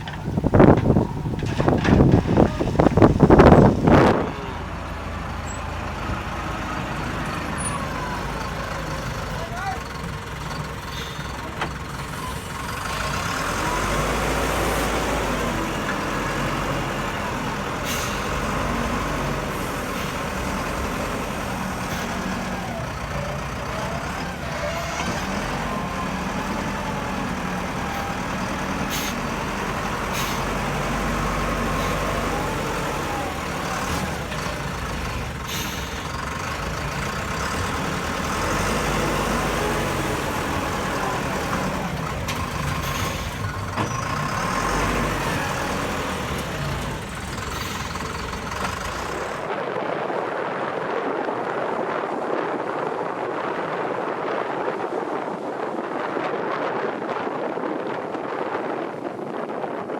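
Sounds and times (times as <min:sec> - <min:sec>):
backhoe diesel engine running: 0:00.0 - 0:49.6.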